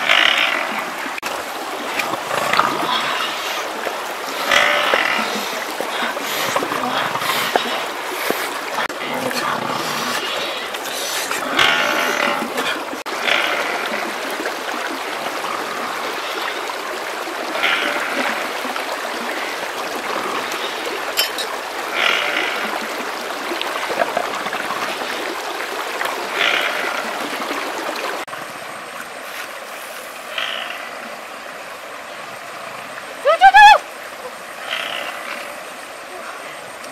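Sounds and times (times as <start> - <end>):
river water flowing: 0.0 - 36.9.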